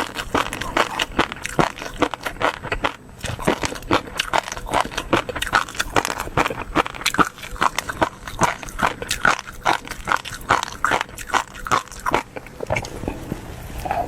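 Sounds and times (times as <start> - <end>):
person chewing with wet clicks: 0.0 - 14.0.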